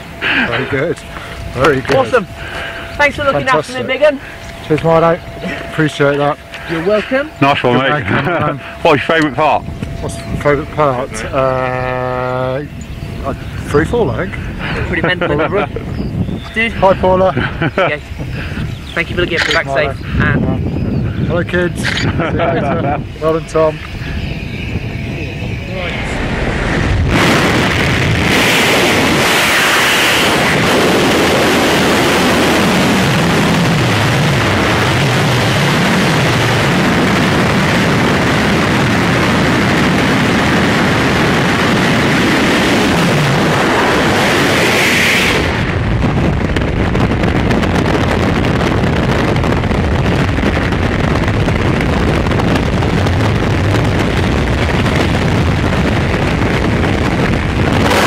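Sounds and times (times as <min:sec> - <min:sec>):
aircraft noise: 0:00.0 - 0:58.0
wind buffeting microphone: 0:00.0 - 0:58.0.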